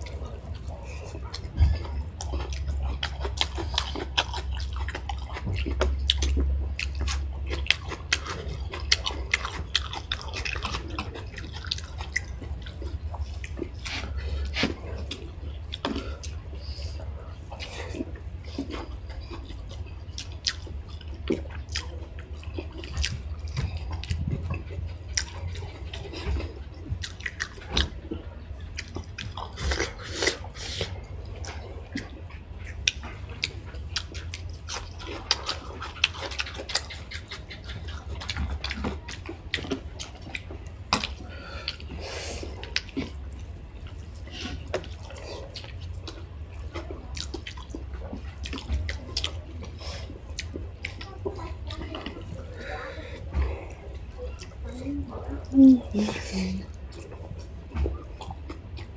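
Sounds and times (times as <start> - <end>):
chewing and mouth smacks: 0.0 - 58.9.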